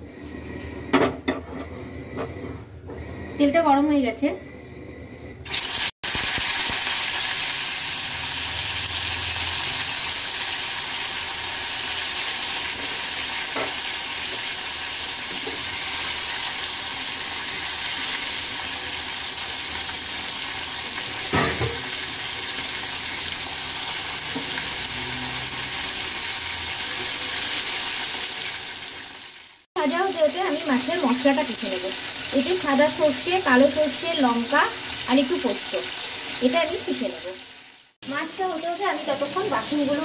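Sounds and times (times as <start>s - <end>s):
fish sizzling in hot oil: 5.4s - 40.0s.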